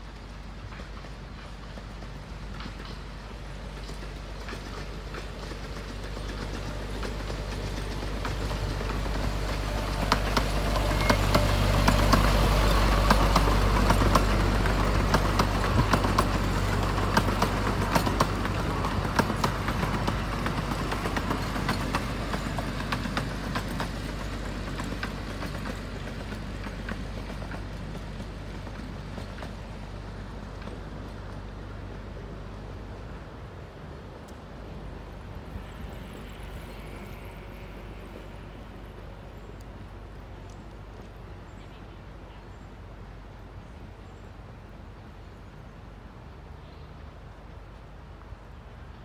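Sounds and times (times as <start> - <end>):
wheels clicking on track: 0.0 - 41.9
small locomotive engine humming: 0.0 - 49.0.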